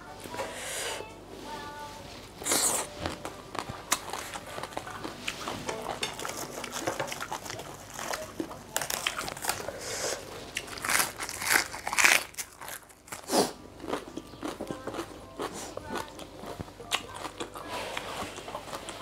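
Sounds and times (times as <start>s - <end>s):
chewing and crunching: 2.4s - 19.0s.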